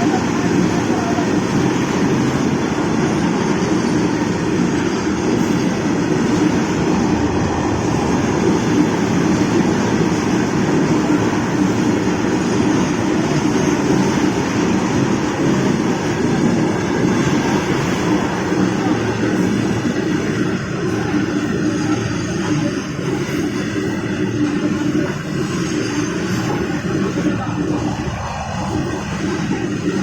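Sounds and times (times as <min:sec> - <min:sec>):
train running on rails: 0:00.0 - 0:30.0.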